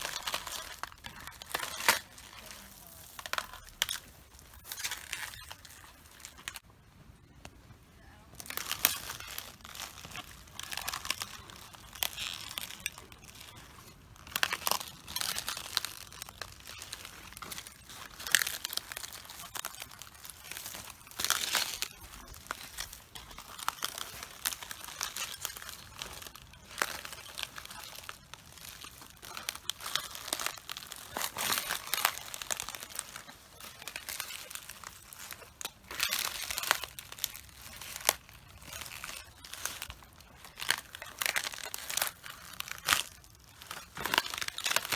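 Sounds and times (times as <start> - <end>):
footsteps crunching cabbage leaves: 0.0 - 6.6, 8.3 - 44.9.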